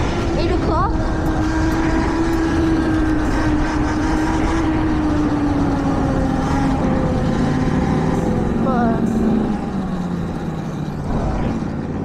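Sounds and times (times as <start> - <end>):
electric motor whining: 0.0 - 12.0
wind rumbling on microphone: 0.0 - 12.0.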